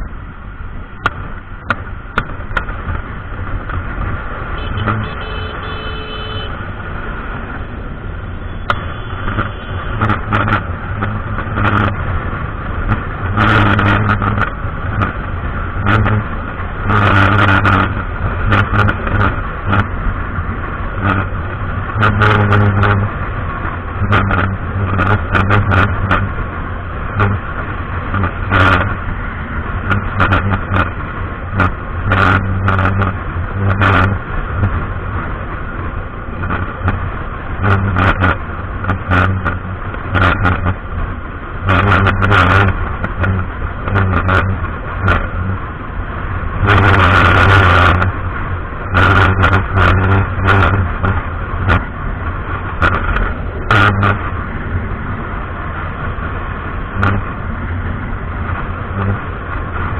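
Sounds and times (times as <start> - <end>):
motorbike engine drone: 0.0 - 59.9
wind noise on microphone: 0.0 - 59.9.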